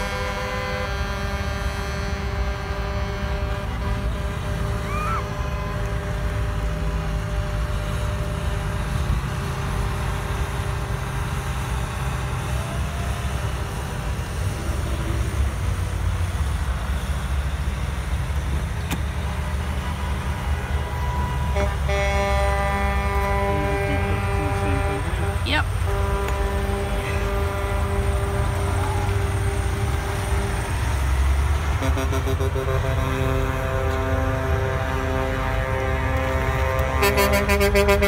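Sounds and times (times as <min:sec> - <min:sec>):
truck air horns: 0:00.0 - 0:38.0
trucks driving past: 0:00.0 - 0:38.0.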